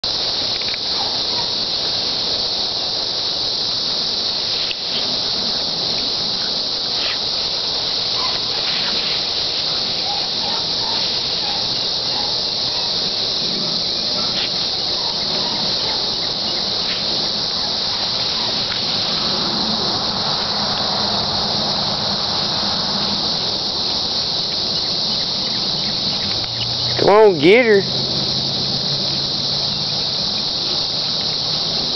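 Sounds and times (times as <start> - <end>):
insect chorus buzzing: 0.0 - 31.9.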